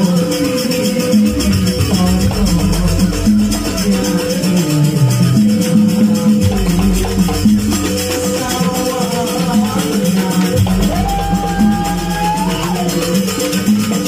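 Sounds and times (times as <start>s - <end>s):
ensemble playing melodic line: 0.0s - 14.0s
fast rattling percussion: 0.0s - 14.0s.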